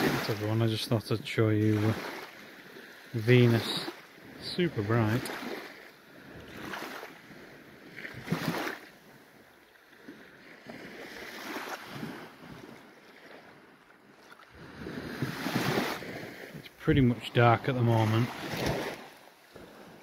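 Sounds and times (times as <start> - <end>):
small waves washing onto shore: 0.0 - 20.0.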